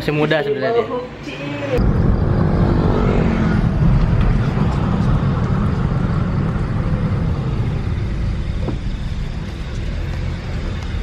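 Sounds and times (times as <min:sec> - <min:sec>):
car engine and road rumble: 0:01.6 - 0:11.0.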